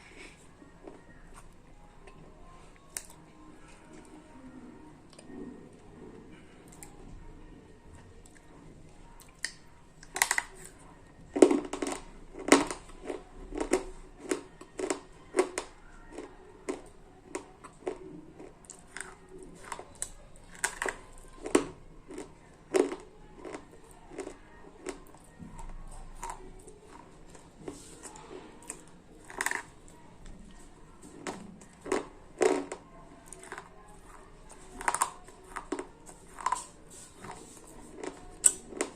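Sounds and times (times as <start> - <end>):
slate pencils being chewed: 0.0 - 4.2, 8.0 - 38.9.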